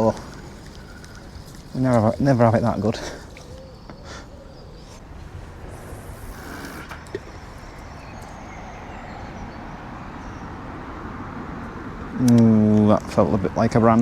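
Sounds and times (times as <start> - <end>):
boat engine rumble: 0.0 - 14.0.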